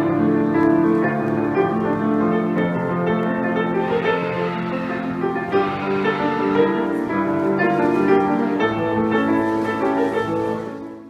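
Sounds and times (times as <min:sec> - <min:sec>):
grand piano melody: 0:00.0 - 0:11.0.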